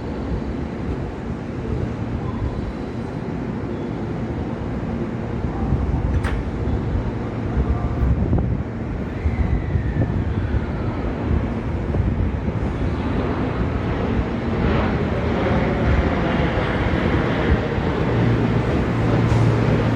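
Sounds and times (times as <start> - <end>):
electric train rumbling: 0.0 - 19.9.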